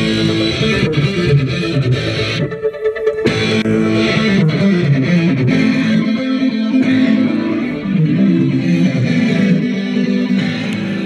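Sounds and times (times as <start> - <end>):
metal techno music on car stereo: 0.0 - 11.0.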